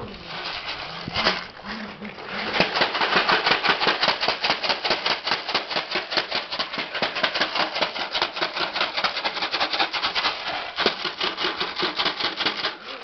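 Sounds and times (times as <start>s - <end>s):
plastic tarp crinkling: 0.0s - 13.0s.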